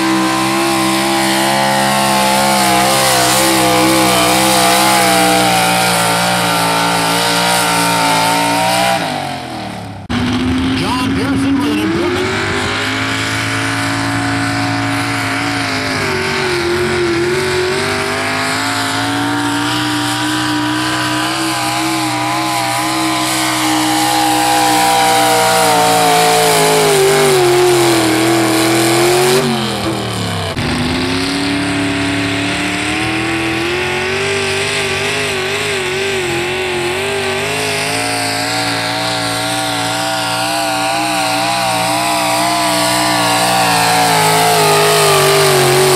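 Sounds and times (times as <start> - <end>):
pickup truck engine at high revs: 0.0 - 45.9.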